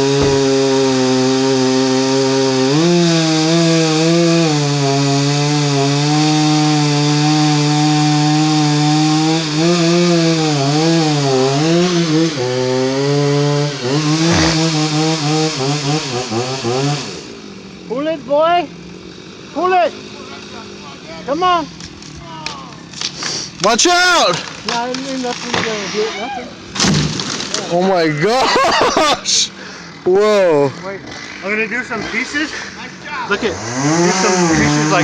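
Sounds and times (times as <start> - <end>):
chainsaw cutting tree trunk: 0.0 - 35.0.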